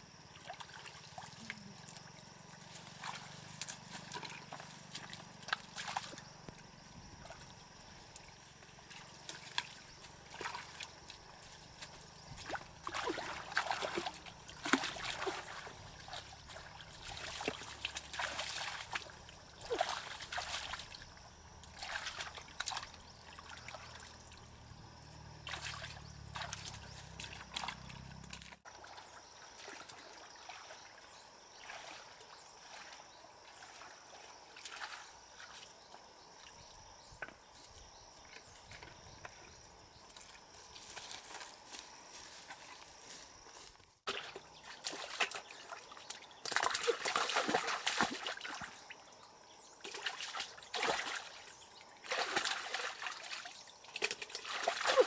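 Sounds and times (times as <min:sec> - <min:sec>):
water trickling and splashing: 0:00.2 - 0:43.2, 0:44.1 - 0:55.0.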